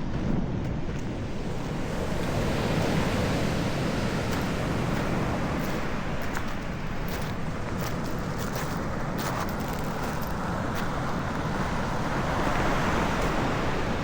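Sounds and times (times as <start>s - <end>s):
sea surf rushing: 1.1s - 14.0s.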